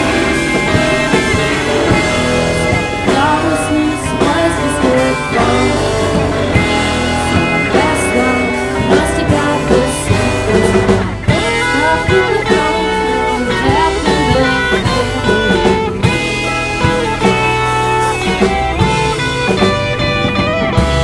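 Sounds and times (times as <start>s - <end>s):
bass guitar: 0.0s - 21.0s
bending guitar lead line: 0.0s - 21.0s
electric guitars: 0.0s - 21.0s
steady drum beat: 0.0s - 21.0s.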